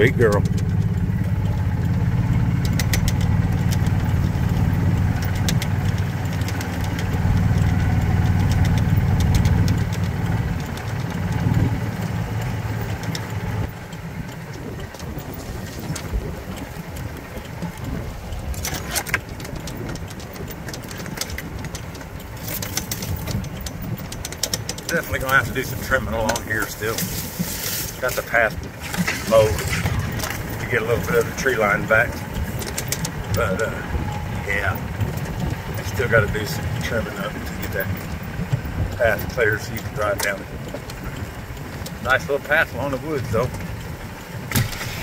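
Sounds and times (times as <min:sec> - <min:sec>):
clicks and rattles: 0:00.0 - 0:45.0
farm vehicle engine running: 0:00.0 - 0:45.0.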